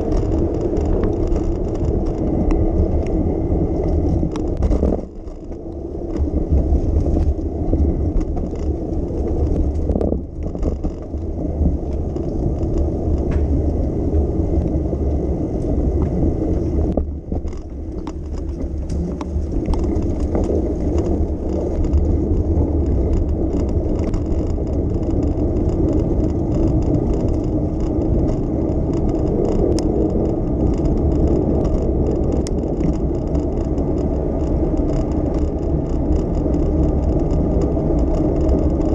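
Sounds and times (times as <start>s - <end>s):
bicycle tyres rumbling on road: 0.0s - 38.9s
traffic: 0.0s - 38.9s
wind on microphone: 0.0s - 38.9s.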